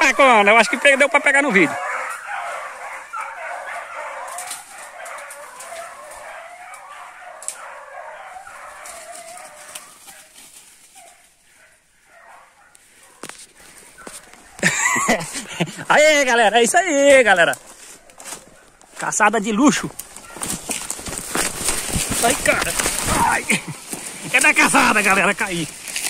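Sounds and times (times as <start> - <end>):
dogs baying: 0.0 - 25.0.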